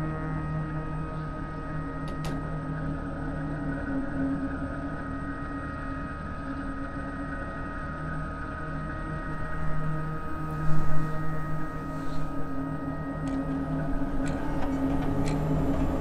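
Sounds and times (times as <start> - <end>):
drone of held tones: 2.6 - 16.0.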